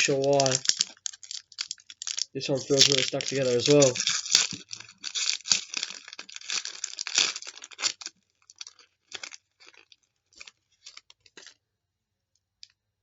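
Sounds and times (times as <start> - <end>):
wrapper tearing and crinkling: 0.0 - 11.6.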